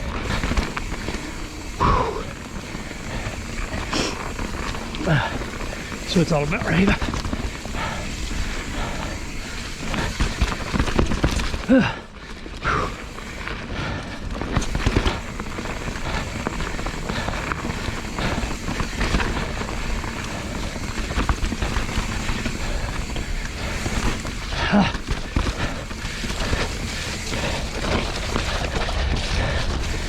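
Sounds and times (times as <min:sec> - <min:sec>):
bike knocking and rattling: 0:00.0 - 0:30.0
tyres rushing on wet dirt: 0:00.0 - 0:30.0.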